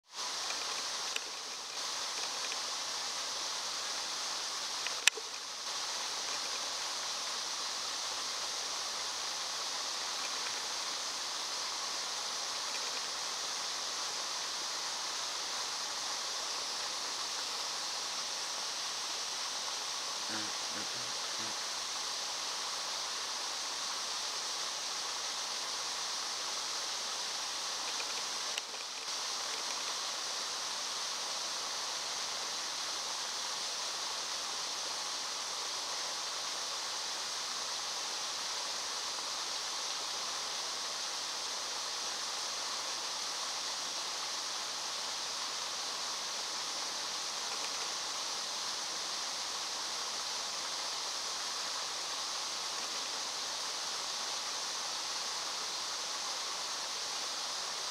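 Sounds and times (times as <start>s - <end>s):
outdoor background hiss: 0.0s - 57.9s.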